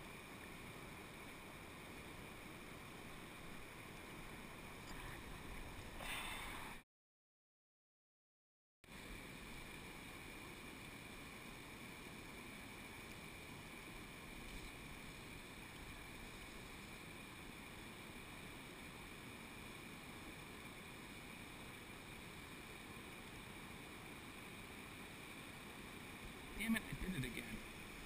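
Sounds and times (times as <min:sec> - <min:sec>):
constant hiss: 0:00.0 - 0:06.8, 0:08.9 - 0:28.0
muffled mountain stream rushing: 0:00.0 - 0:06.8, 0:08.9 - 0:28.0.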